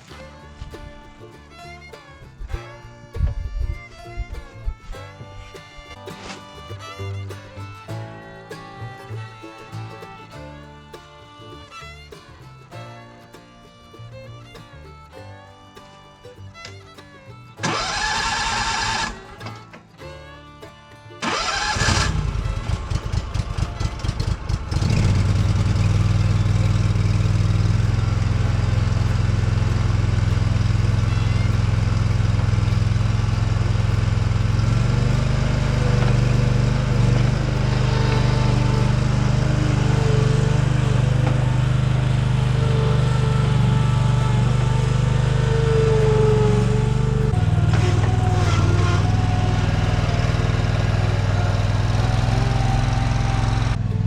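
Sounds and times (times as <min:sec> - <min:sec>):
engine cranking and starting: 0:00.0 - 0:54.0.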